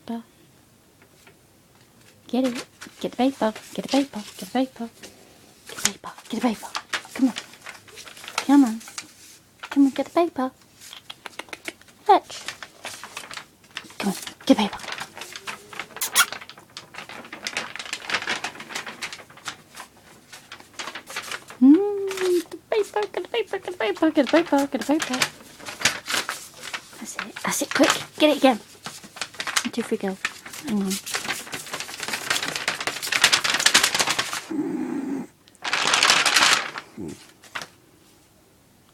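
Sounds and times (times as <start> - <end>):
paper rustling and crinkling: 1.0 - 34.5, 35.6 - 38.2.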